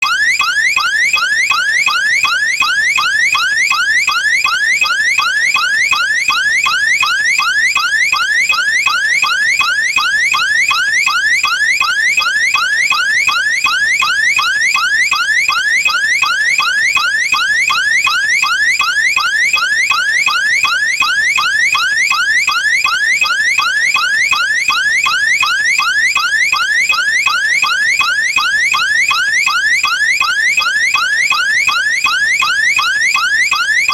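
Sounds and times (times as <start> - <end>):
alarm siren whooping: 0.0 - 33.9.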